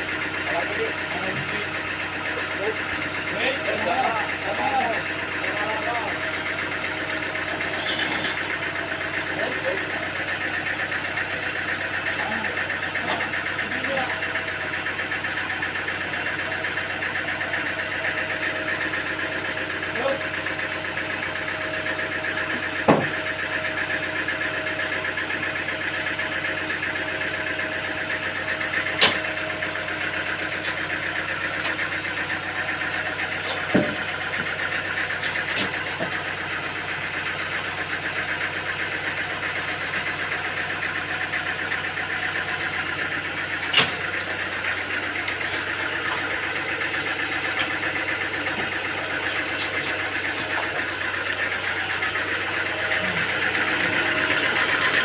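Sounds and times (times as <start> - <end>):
sawmill machinery engine running: 0.0 - 55.0.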